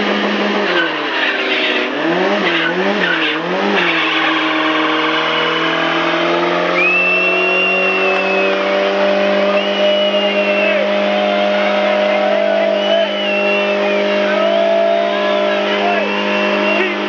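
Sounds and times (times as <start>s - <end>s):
car engine revving: 0.0s - 17.0s
high-pitched tyre squeal: 0.2s - 17.0s.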